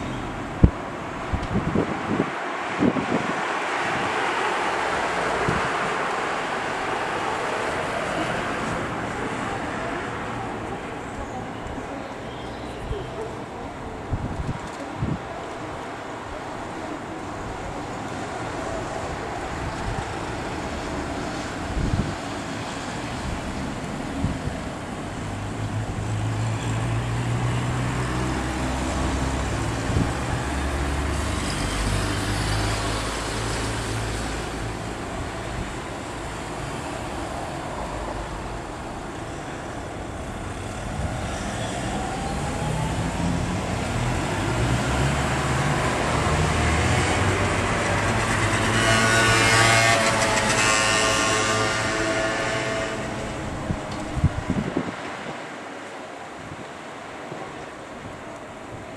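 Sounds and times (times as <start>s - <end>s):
traffic driving past: 0.0s - 58.9s.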